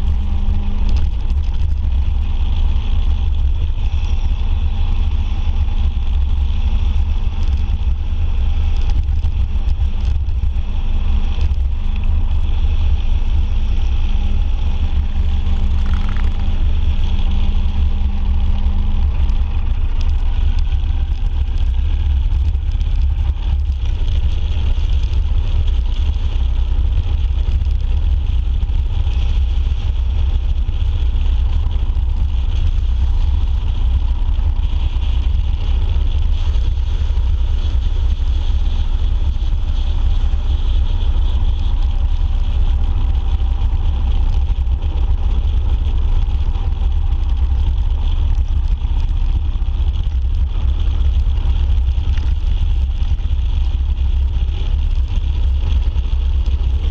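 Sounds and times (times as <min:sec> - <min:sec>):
motorcycle engine drone: 0:00.0 - 0:56.9
wind rush on microphone: 0:00.0 - 0:56.9.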